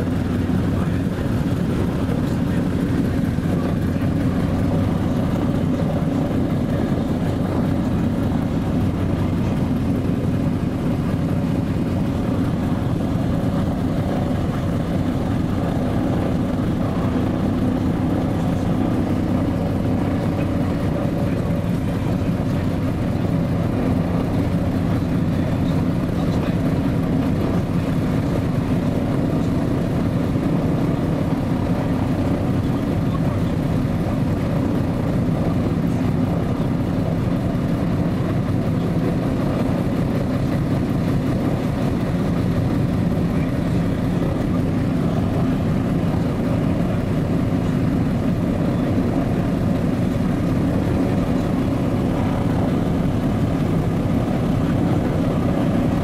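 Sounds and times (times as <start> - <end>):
propeller engines droning: 0.0 - 56.0.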